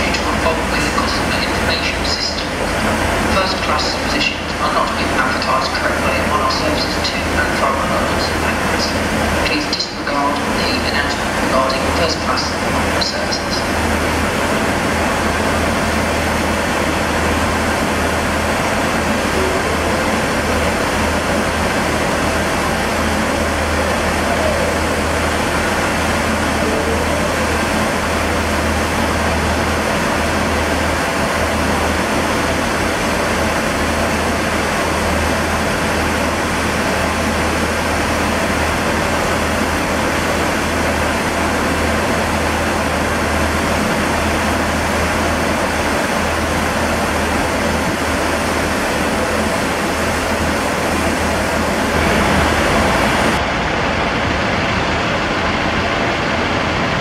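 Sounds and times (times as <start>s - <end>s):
low train rumble: 0.0s - 57.0s
steady rushing noise: 0.0s - 57.0s.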